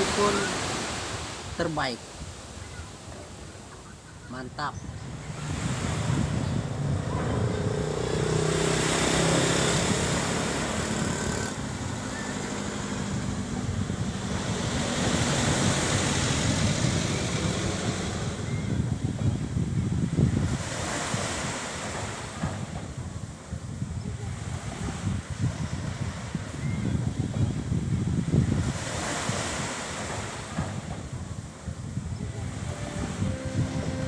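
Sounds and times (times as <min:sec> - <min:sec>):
small waves breaking on sandy beach: 0:00.0 - 0:34.0.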